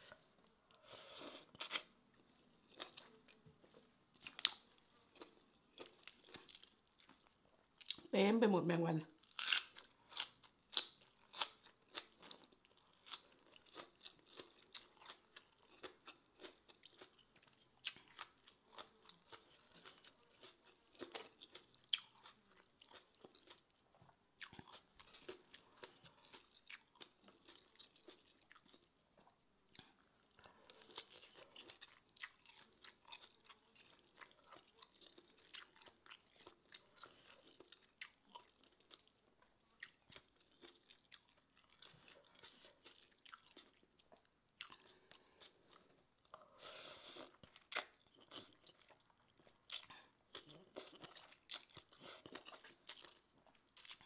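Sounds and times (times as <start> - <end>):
person chewing and crunching: 0.0 - 8.1, 9.2 - 54.0.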